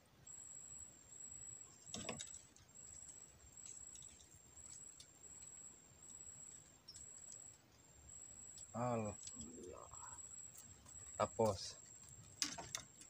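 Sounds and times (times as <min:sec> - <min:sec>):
faint high steady tone: 0:00.0 - 0:12.8.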